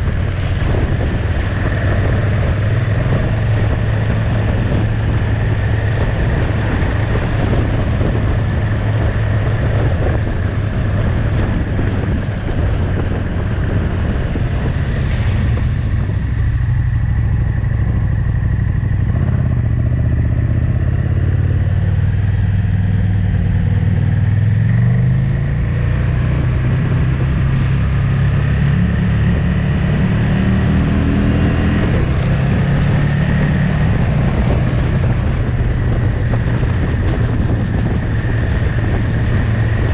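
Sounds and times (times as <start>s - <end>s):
motorcycle engine accelerating: 0.0s - 39.9s
wind rush: 0.0s - 39.9s.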